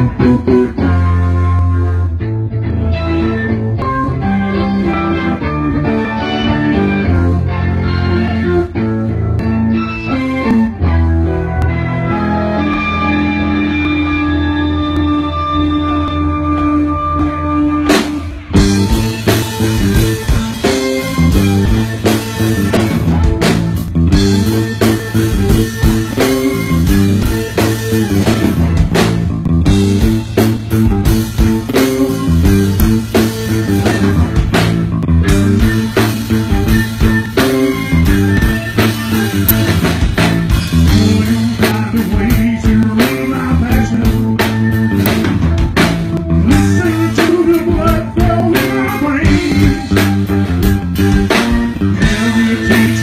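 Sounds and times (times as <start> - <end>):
drum kit: 0.0 - 53.0
electric bass: 0.0 - 53.0
electric guitar: 0.0 - 53.0.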